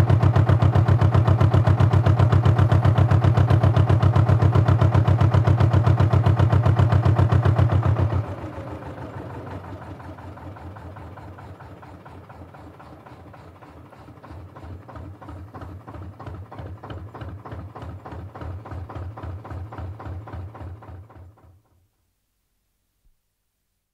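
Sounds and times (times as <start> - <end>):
boat diesel engine chugging: 0.0 - 21.4.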